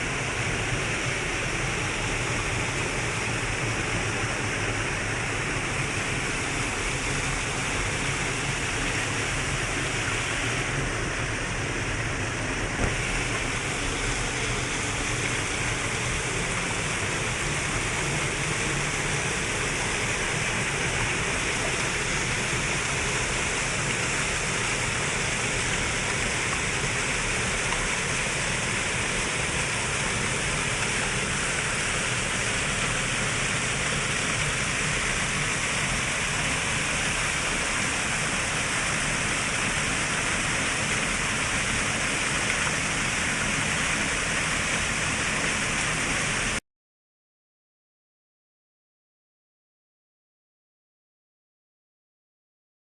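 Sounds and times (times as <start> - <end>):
waterfall rushing: 0.0 - 46.6.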